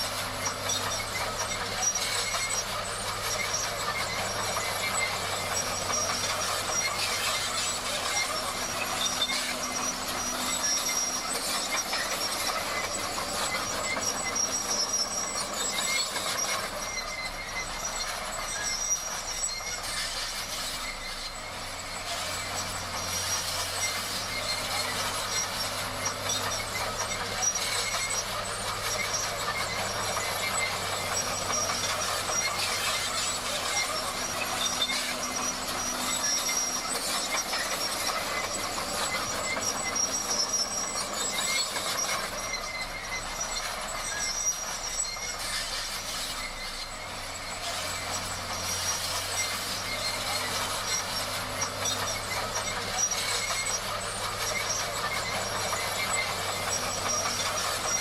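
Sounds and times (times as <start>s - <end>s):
bulldozer engine running: 0.0s - 58.0s
steel tracks clanking and squealing: 0.0s - 58.0s.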